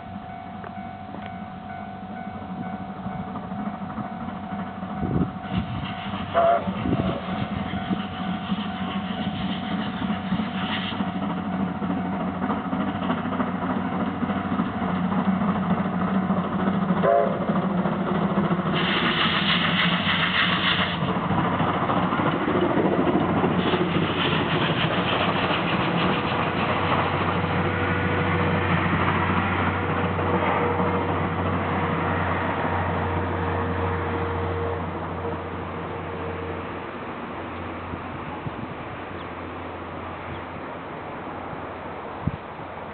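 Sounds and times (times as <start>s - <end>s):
rail noise: 0.0s - 42.9s
steam locomotive passing: 0.0s - 42.9s.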